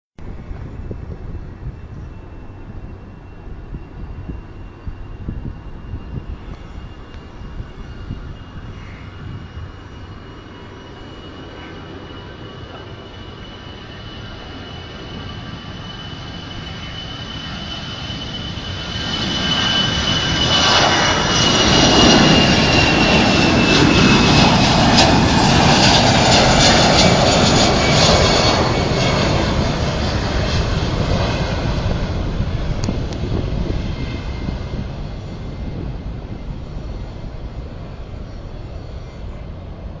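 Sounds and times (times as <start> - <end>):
high turbine whine: 0.2 - 40.0
jet airliner taking off: 0.2 - 40.0.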